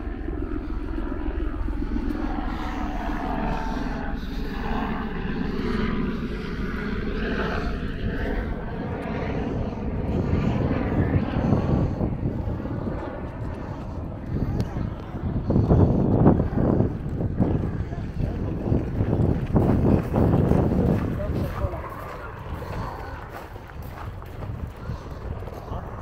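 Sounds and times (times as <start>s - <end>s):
aircraft engines droning overhead: 0.0s - 26.0s.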